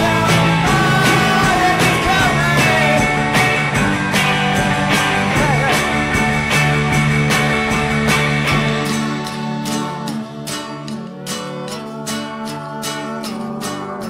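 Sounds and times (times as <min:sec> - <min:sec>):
person singing: 0:00.0 - 0:06.4, 0:08.5 - 0:14.0
rock music with beat: 0:00.0 - 0:11.9
guitar: 0:00.0 - 0:14.0.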